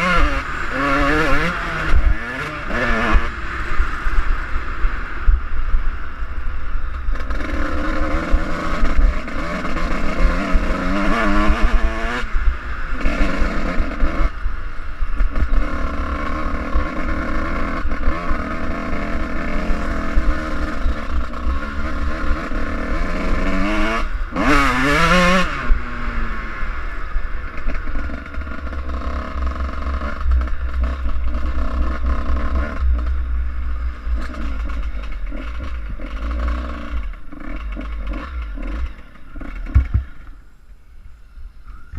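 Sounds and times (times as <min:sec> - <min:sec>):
dirt bike engine revving: 0:00.0 - 0:40.5.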